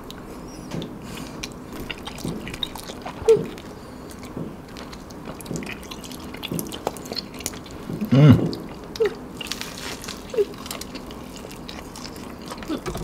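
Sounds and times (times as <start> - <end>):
people chewing cheese: 0.0 - 13.0.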